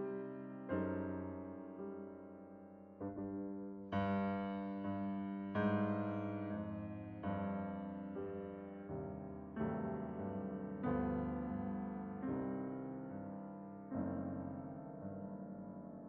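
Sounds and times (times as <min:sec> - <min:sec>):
slow soft piano chords: 0:00.0 - 0:16.0.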